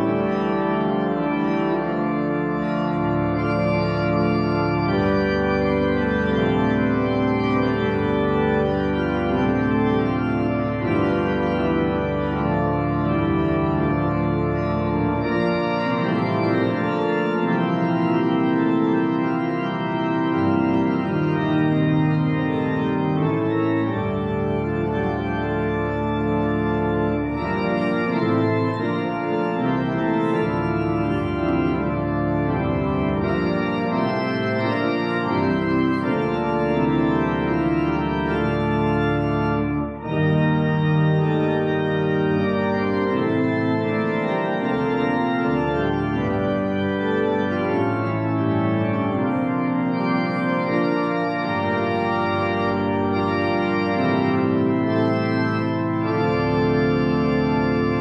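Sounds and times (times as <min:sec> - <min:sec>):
organ chords: 0:00.0 - 0:58.0.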